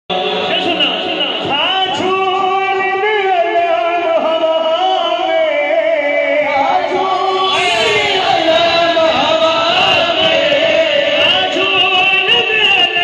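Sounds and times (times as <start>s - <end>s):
man singing into a microphone: 1.4s - 13.0s.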